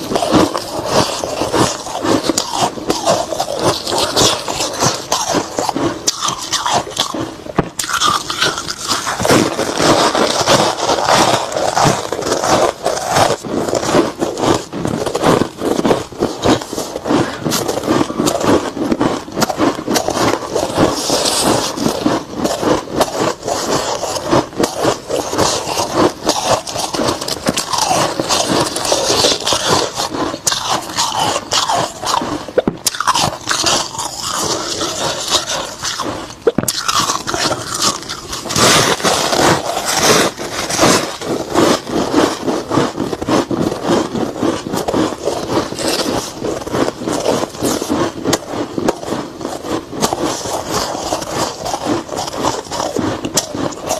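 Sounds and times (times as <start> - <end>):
chewing crunchy frost: 0.0 - 53.9.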